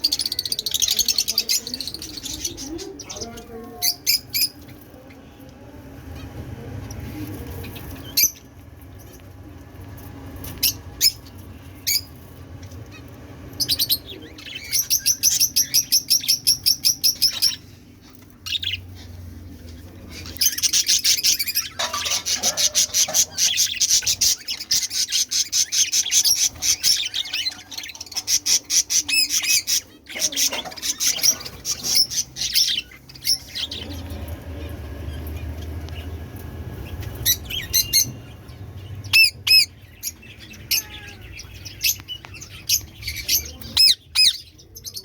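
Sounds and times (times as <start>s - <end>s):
caged birds chirping: 0.0s - 45.0s.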